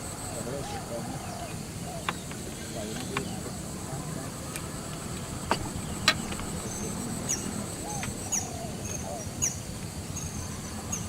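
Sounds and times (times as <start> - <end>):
high insect drone: 0.0 - 11.0
low outdoor rumble: 0.0 - 11.0.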